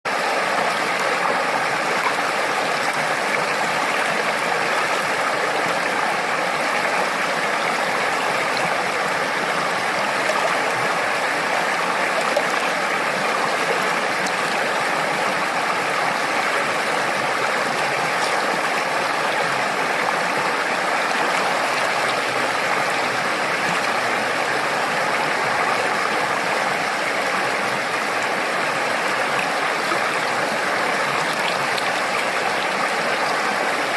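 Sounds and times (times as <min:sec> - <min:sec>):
water running over rocks: 0:00.1 - 0:33.9.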